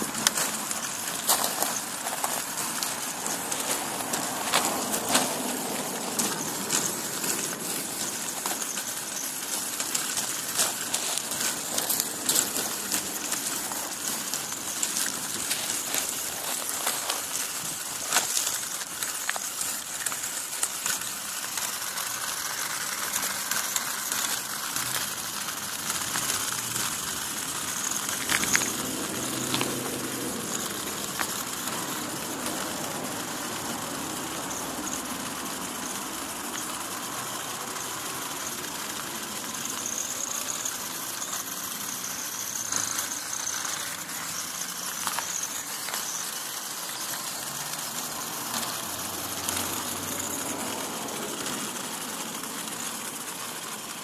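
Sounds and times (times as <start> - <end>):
gear motors whirring: 0.0 - 54.0
wheels crunching over gravel: 0.0 - 54.0.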